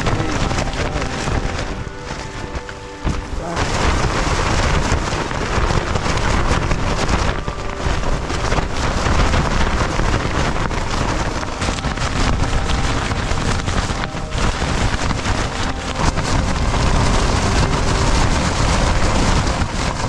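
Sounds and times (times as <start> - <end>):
gale buffeting microphone: 0.0 - 20.0
tent fabric shaking: 0.0 - 20.0.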